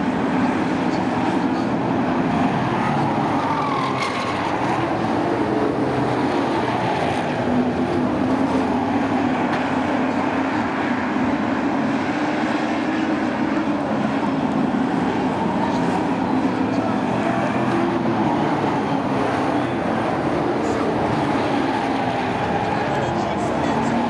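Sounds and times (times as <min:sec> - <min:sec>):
racing truck engines droning: 0:00.0 - 0:24.0.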